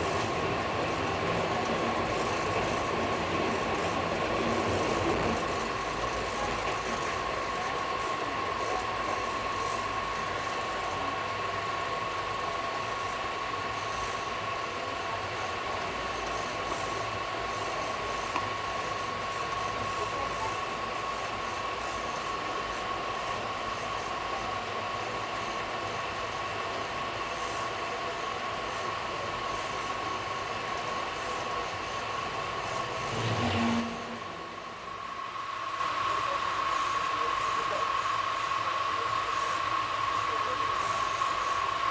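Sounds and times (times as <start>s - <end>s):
train rumbling and rattling: 0.0s - 24.0s, 28.8s - 40.6s
thin steady whine: 0.0s - 41.9s.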